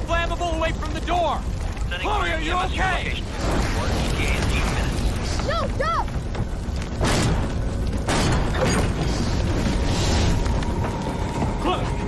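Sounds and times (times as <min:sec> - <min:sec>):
fire burning: 0:00.0 - 0:12.0.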